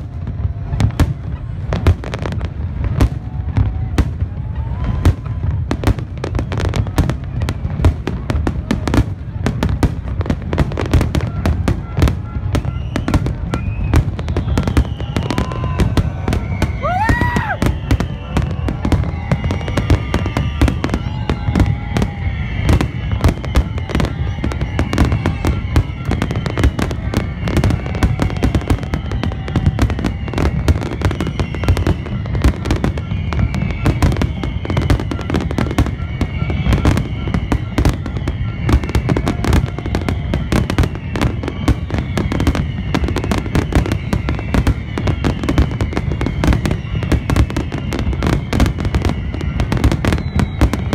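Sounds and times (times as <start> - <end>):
firework bursts and crackles: 0.0 - 50.9
firework whistling: 0.0 - 50.9.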